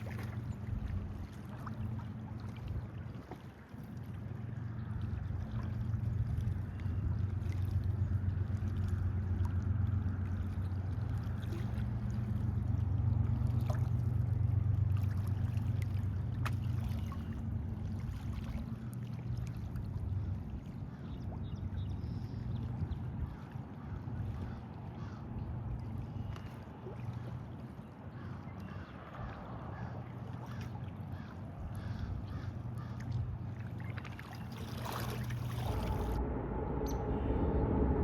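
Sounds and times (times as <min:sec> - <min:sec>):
wind rumble on microphone: 0:00.0 - 0:27.5, 0:34.9 - 0:38.0
water trickling and lapping: 0:00.0 - 0:36.2.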